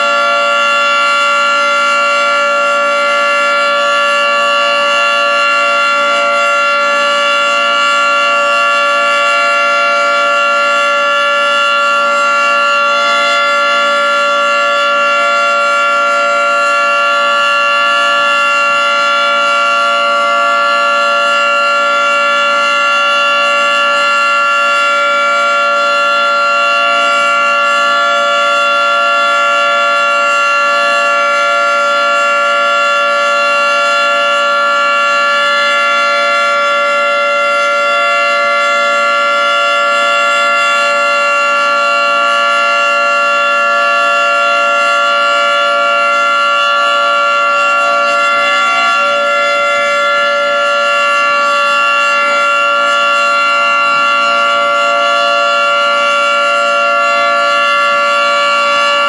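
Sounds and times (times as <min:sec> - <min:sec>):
two-tone warning siren: 0:00.0 - 0:59.0.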